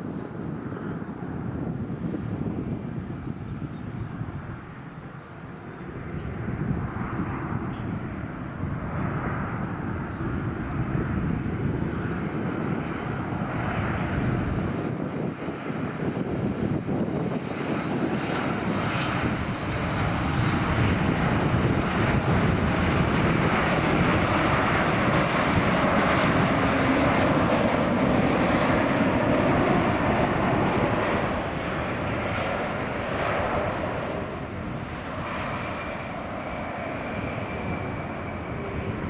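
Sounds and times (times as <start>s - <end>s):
jet airliner roar: 0.0s - 39.0s.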